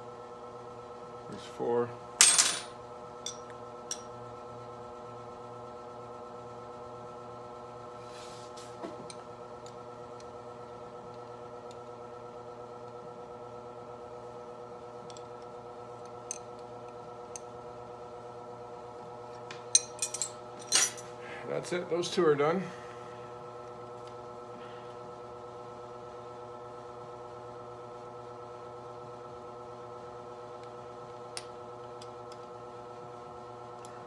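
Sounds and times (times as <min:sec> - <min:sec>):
steady multi-pitched hum: 0:00.0 - 0:34.0.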